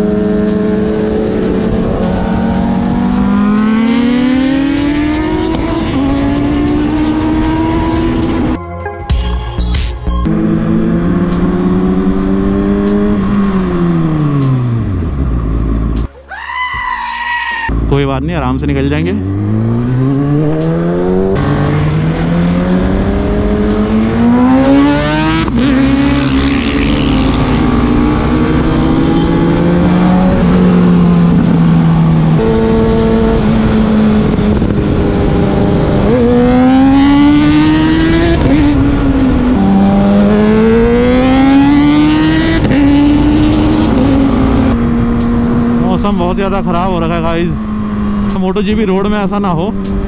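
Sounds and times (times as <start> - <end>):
motorcycle engine revving through gears: 0.0 - 8.6, 10.2 - 16.1, 19.2 - 50.0.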